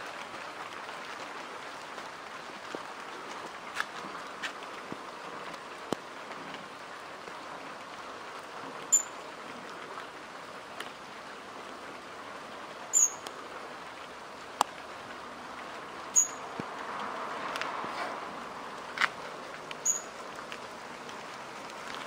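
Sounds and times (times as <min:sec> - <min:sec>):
rain pattering on leaves: 0:00.0 - 0:22.0.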